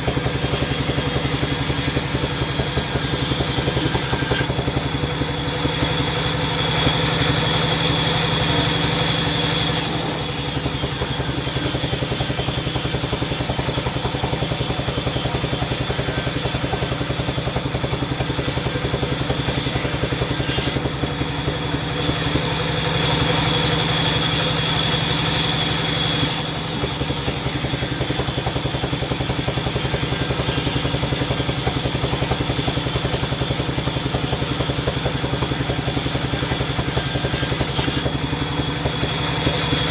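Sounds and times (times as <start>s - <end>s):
saw cutting timber with ringing hiss: 0.0s - 39.9s
sawmill machinery drone: 0.0s - 39.9s.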